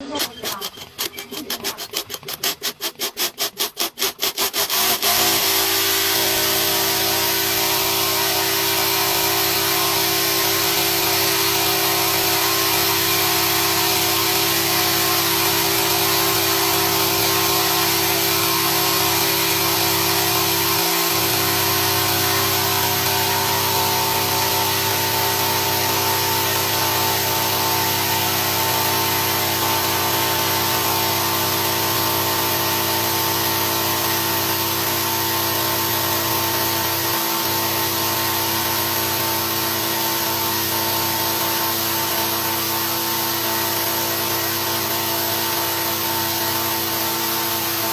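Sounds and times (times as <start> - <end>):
sewing machine running: 0.0 - 47.9.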